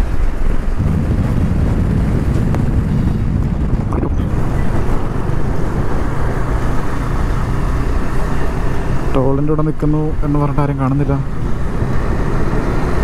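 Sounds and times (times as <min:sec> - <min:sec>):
wind buffeting microphone: 0:00.0 - 0:09.2, 0:11.1 - 0:13.0
motorcycle engine: 0:00.3 - 0:13.0.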